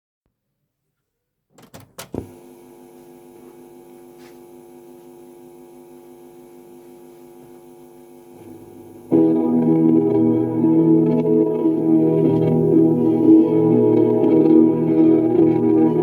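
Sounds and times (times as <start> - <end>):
electrical mains hum: 1.6 - 16.0.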